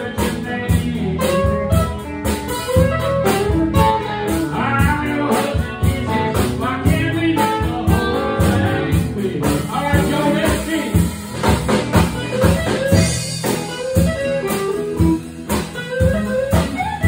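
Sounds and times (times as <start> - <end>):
guitars: 0.0 - 17.0
live blues band playing: 0.0 - 17.0
steady drum beat: 0.0 - 17.0.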